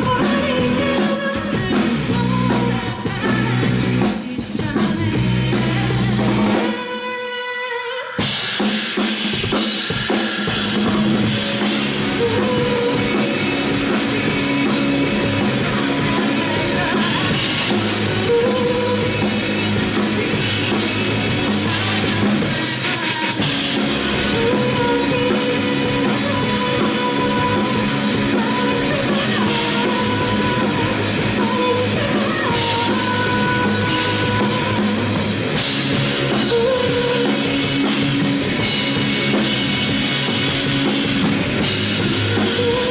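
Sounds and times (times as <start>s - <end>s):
guitars: 0.0s - 7.0s, 10.5s - 42.9s
drum kit beat: 0.0s - 7.1s, 8.2s - 42.9s
person singing: 0.0s - 8.3s, 11.4s - 38.3s, 42.1s - 42.9s.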